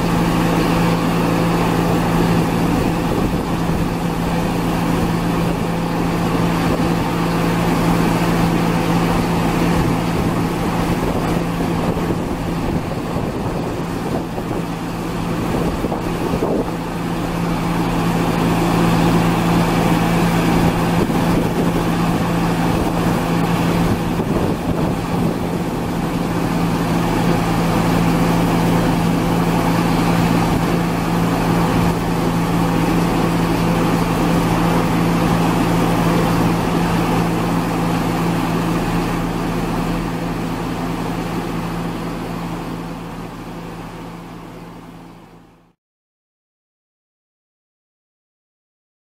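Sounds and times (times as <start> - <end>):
machinery engine drone: 0.0 - 45.8.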